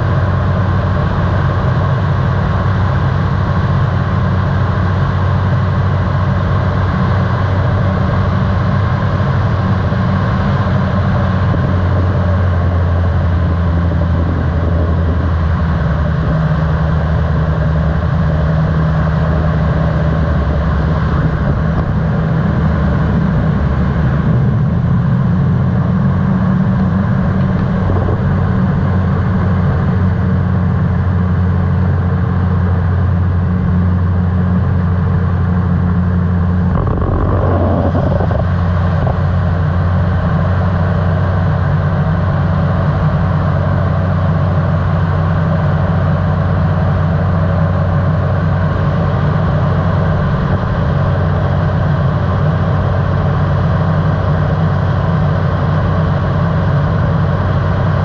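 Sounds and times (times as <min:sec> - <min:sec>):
microlight engine and propeller droning: 0:00.0 - 0:58.0.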